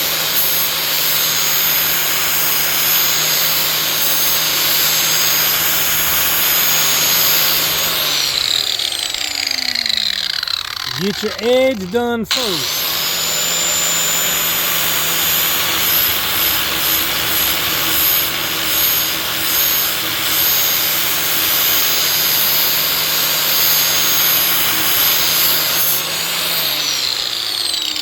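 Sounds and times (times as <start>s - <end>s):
angle grinder grinding steel: 0.0s - 28.0s.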